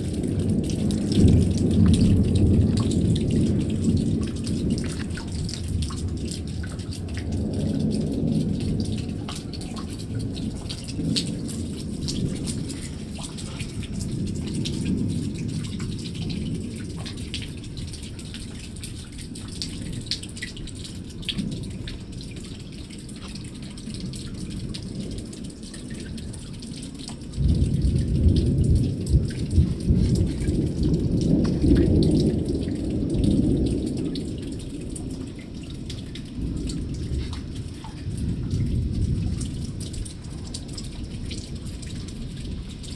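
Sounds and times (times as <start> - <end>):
raindrops ticking: 0.0 - 42.9
thunder rumbling: 0.0 - 42.9.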